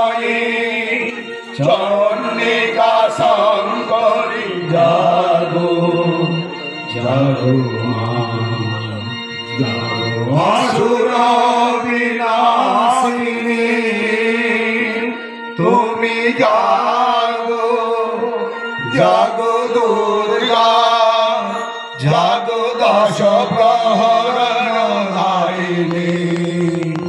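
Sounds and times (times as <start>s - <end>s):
steady held drone: 0.0s - 22.0s
devotional chanting: 0.0s - 27.0s.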